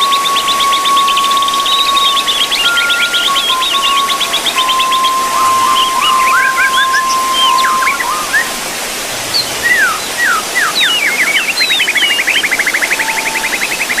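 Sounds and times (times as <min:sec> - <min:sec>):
birds chirping: 0:00.0 - 0:14.0
steady rushing hiss: 0:00.0 - 0:14.0
steady whistle-like tone: 0:00.0 - 0:14.0
bird trilling fast: 0:00.2 - 0:13.5.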